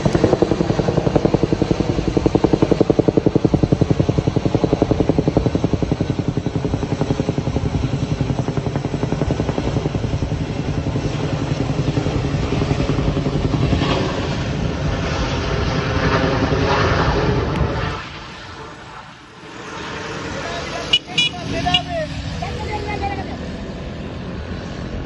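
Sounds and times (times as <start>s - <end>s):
helicopter rotor beating: 0.0s - 25.0s.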